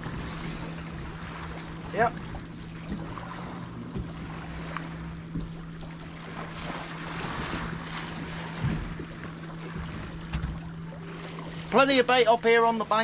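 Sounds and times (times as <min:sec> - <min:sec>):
steady low hum: 0:00.0 - 0:13.0
water slopping around boat: 0:00.0 - 0:13.0.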